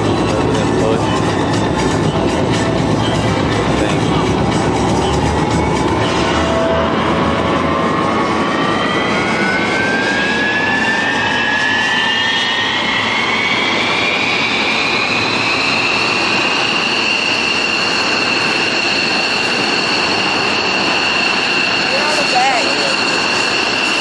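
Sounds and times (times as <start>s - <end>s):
jet engines spooling up: 0.0s - 24.0s.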